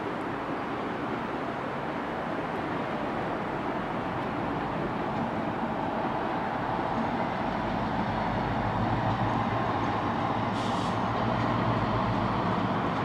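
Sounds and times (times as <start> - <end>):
train engine rumbling: 0.0 - 13.0.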